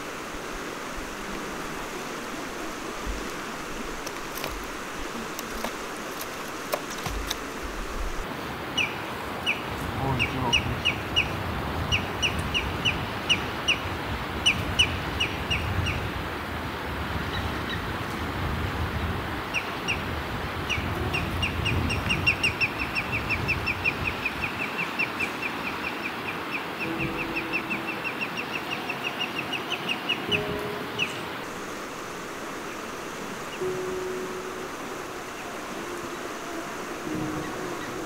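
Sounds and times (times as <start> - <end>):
steady rushing noise: 0.0 - 38.0.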